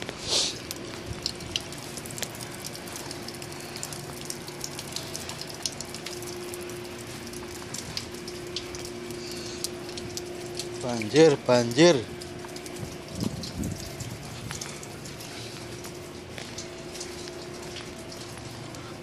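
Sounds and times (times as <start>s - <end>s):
meltwater trickling and dripping: 0.0s - 19.0s
steady low hum: 0.0s - 19.0s.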